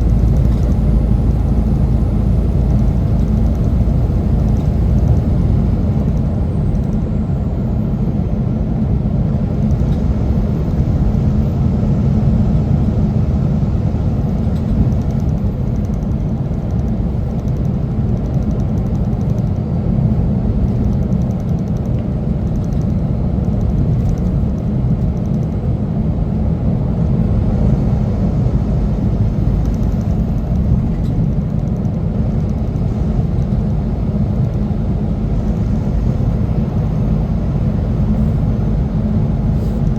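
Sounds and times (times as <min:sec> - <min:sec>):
truck engine and road noise: 0:00.0 - 0:39.9.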